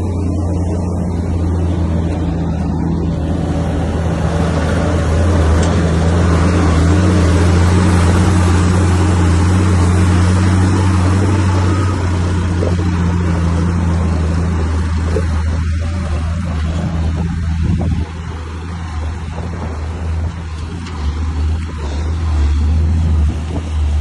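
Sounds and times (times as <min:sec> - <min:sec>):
bulldozer diesel engine humming: 0:00.0 - 0:24.0.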